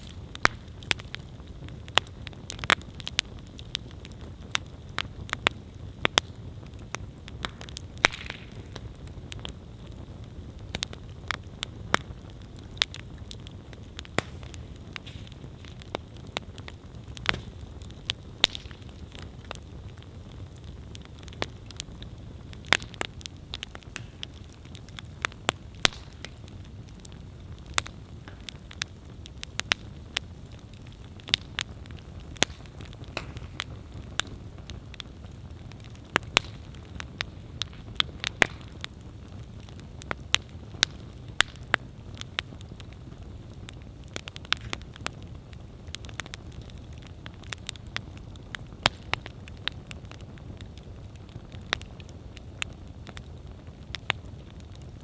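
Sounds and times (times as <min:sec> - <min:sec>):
campfire flames rushing: 0:00.0 - 0:55.0
logs crackling and popping: 0:00.0 - 0:55.0.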